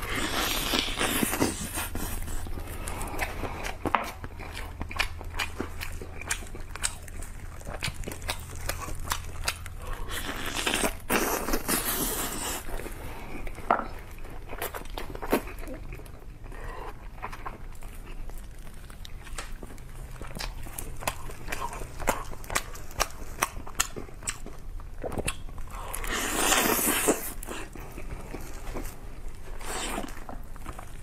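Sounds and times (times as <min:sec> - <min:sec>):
close chewing with wet clicks: 0:00.1 - 0:31.0.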